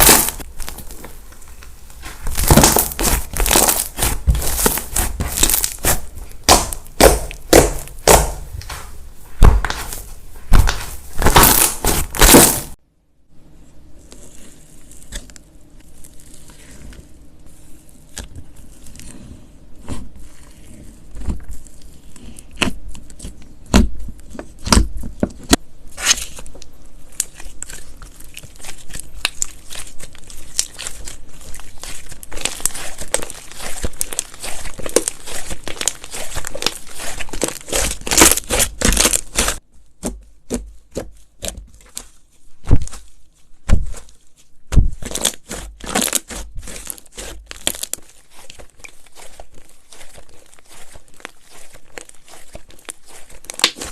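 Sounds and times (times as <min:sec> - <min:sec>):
slime crackling and popping: 0:00.0 - 0:12.8, 0:20.3 - 0:53.9.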